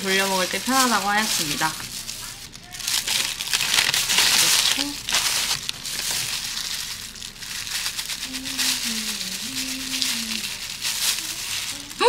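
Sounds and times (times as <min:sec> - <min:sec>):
paper and plastic crinkling: 0:00.0 - 0:12.0.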